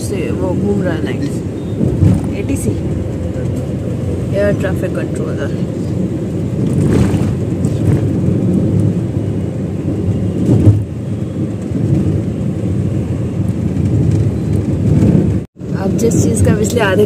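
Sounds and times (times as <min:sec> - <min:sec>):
car road noise rumble: 0:00.0 - 0:17.0
passing traffic: 0:00.0 - 0:17.0.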